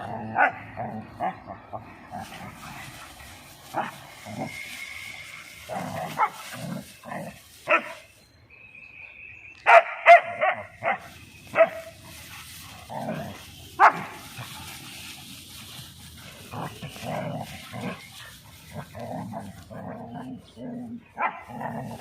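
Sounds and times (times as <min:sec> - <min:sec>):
dogs barking and yipping: 0:00.0 - 0:08.2, 0:09.6 - 0:22.0.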